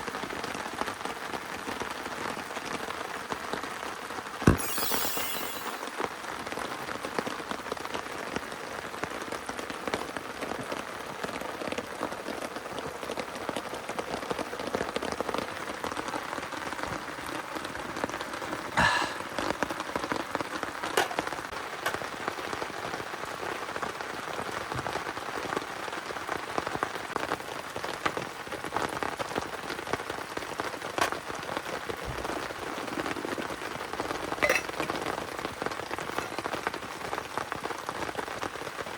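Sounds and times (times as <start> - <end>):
heavy rain drumming on tarp: 0.0 - 4.4, 6.0 - 38.9.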